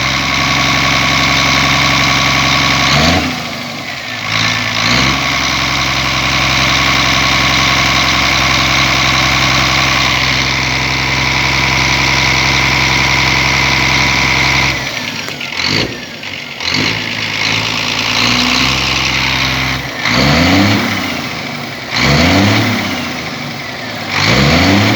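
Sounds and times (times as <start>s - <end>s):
truck diesel engine revving: 0.0s - 24.9s.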